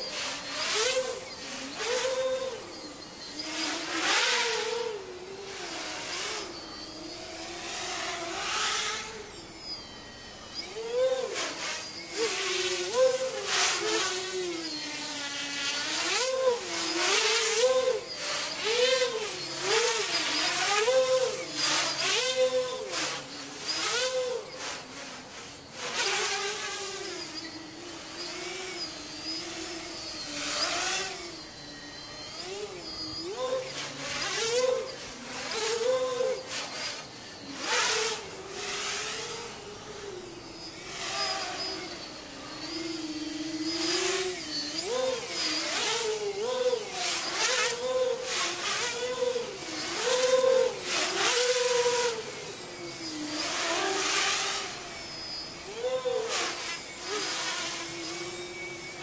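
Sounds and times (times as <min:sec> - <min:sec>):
drone motors and propellers whining: 0:00.0 - 0:59.0.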